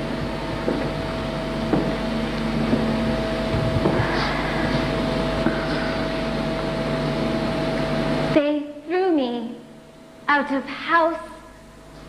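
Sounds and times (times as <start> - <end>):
droning hum with hiss: 0.0 - 12.0.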